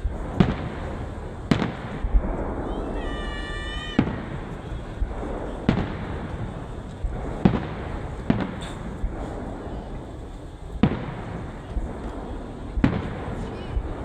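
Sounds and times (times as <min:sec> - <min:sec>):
background noise: 0:00.0 - 0:14.0
fireworks booming: 0:00.0 - 0:14.0.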